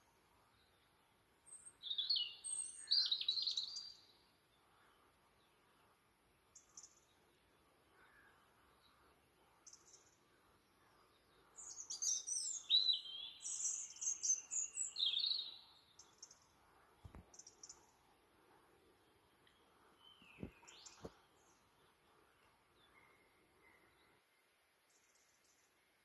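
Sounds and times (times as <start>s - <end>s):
faint background noise: 0.0s - 26.0s
songbird singing: 0.0s - 26.0s.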